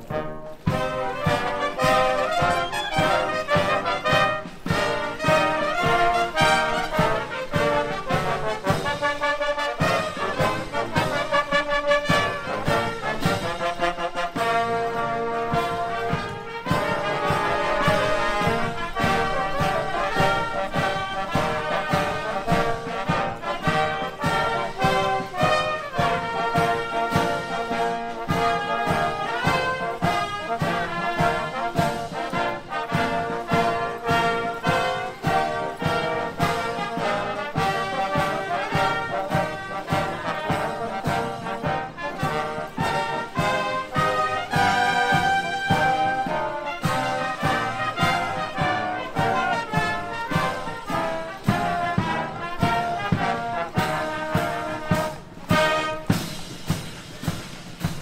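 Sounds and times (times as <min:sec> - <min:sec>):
brass band playing a march: 0:00.0 - 0:58.0
steady drumbeat: 0:00.0 - 0:58.0.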